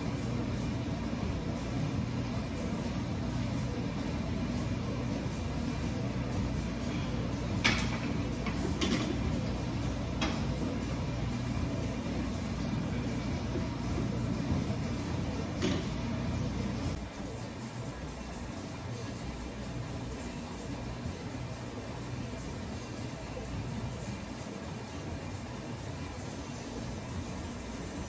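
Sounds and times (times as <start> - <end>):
low gym room rumble: 0.0 - 28.0.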